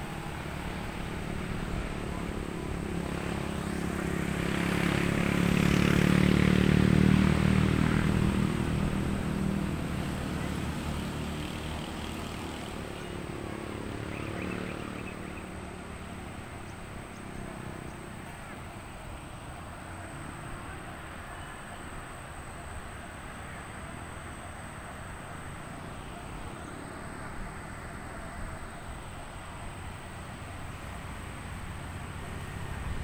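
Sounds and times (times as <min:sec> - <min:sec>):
engine passing by: 0:00.0 - 0:33.0.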